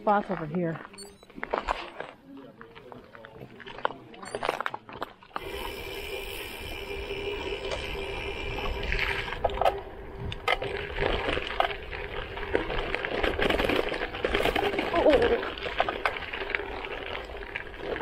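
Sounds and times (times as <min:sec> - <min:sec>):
bike tyres rolling on gravel: 0:00.0 - 0:18.0.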